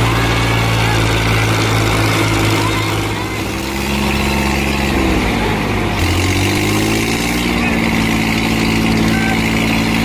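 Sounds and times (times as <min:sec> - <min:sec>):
tractor engines running under load: 0:00.0 - 0:10.0.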